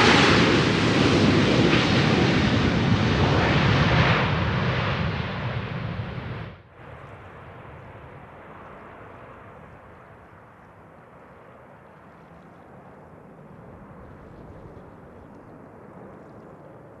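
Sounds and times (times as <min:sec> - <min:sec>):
jet engines roaring on takeoff: 0:00.0 - 0:17.0
quiet jet rumble: 0:00.0 - 0:17.0.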